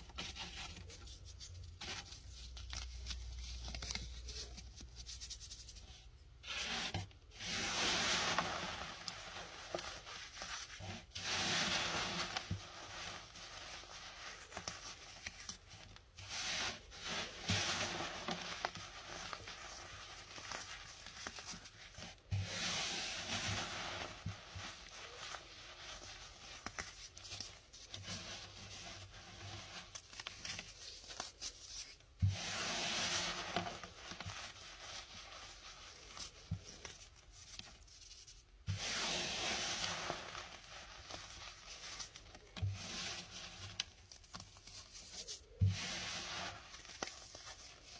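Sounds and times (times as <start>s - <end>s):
powder sifting through fingers: 0.0s - 47.9s
hands crushing baking soda: 6.4s - 37.9s, 38.6s - 47.9s.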